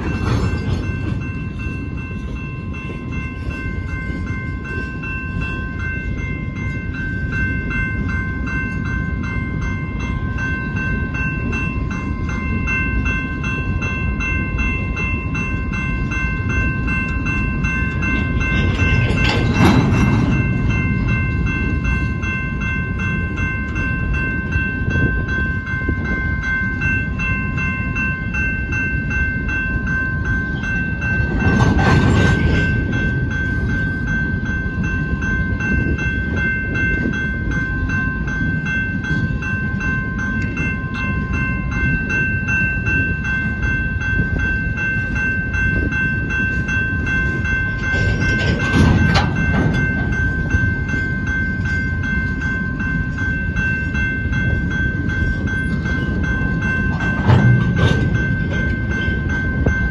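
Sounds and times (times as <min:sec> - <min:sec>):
crossing warning bell ringing: 0:00.0 - 0:59.9
train wheels rumbling on rail: 0:00.0 - 0:59.9.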